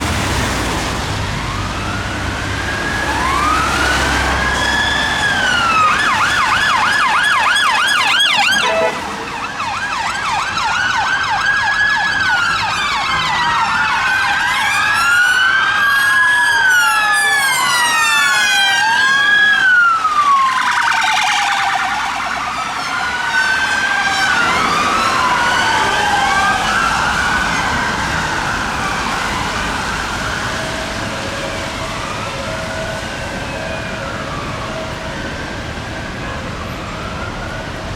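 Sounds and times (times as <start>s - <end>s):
police sirens wailing: 0.0s - 37.9s
road and engine noise: 0.0s - 37.9s
siren yelp: 1.3s - 37.9s.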